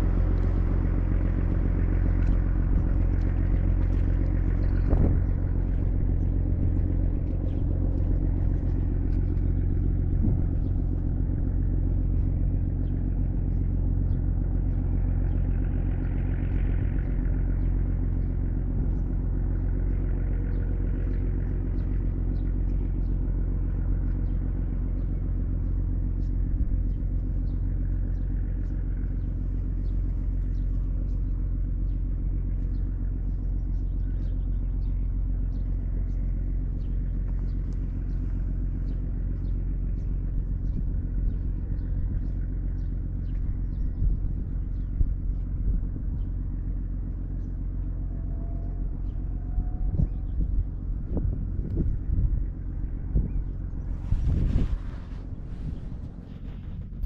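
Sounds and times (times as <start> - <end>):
boat diesel engine droning: 0.0 - 57.0.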